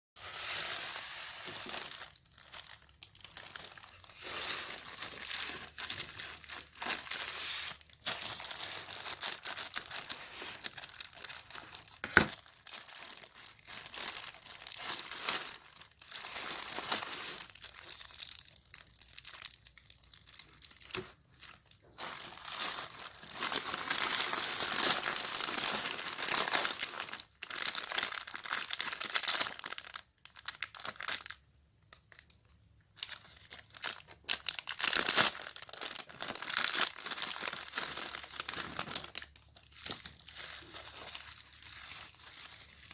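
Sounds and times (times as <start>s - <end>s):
plastic packaging crinkling: 0.2s - 42.9s.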